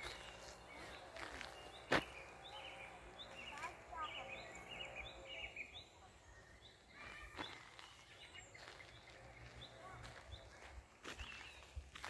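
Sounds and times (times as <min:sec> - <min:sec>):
footsteps on gravel: 0:00.0 - 0:05.2, 0:06.8 - 0:12.0
faint birdsong chirps: 0:00.0 - 0:12.0.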